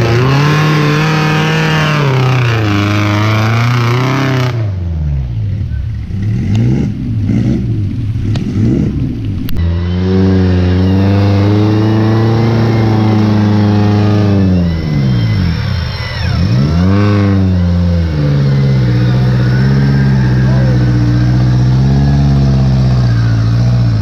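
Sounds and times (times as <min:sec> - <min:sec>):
engine revving hard: 0:00.0 - 0:04.8, 0:06.1 - 0:24.0.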